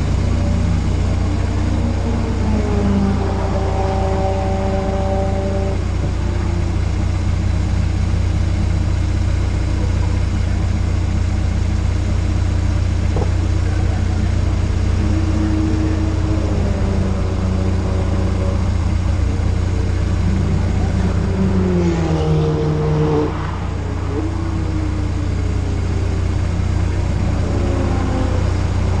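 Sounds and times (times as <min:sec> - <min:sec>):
car driving up: 0:00.0 - 0:29.0
car engine idling: 0:00.0 - 0:29.0
second car engine: 0:00.0 - 0:29.0.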